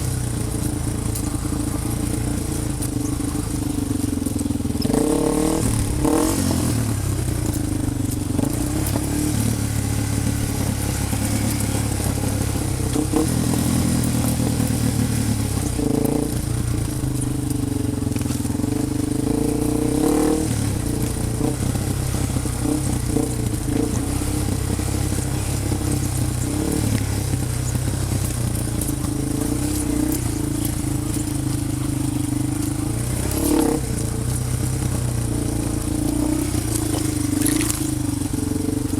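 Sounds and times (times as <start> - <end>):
off-road vehicle engine revving: 0.0 - 38.9
rattling and clatter: 0.0 - 38.9.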